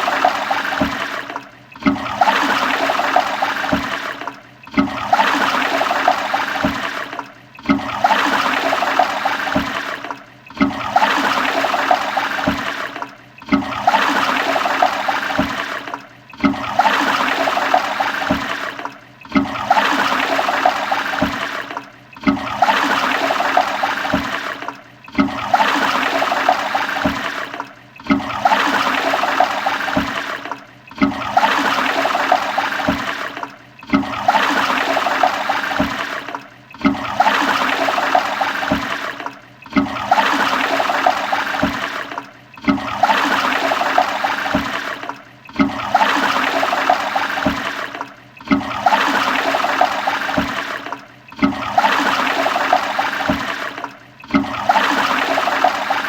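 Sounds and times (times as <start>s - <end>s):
toilet flushing: 0.0s - 56.0s.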